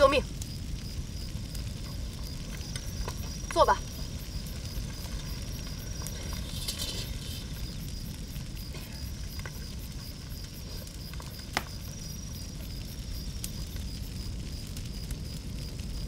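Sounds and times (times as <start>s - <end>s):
campfire crackling: 0.0s - 16.0s
night insects chirping: 0.0s - 16.0s
sharp crack of fire: 0.0s - 16.0s.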